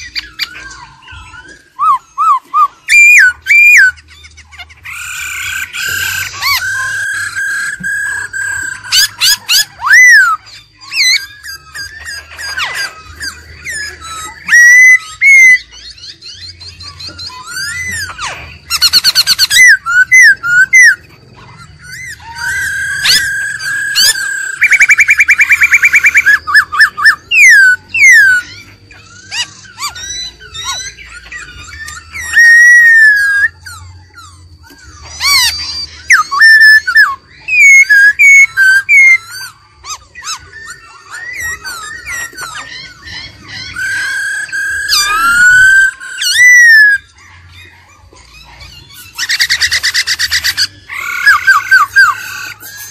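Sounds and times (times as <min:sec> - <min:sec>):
bird singing whistled phrases: 0:00.0 - 0:52.9.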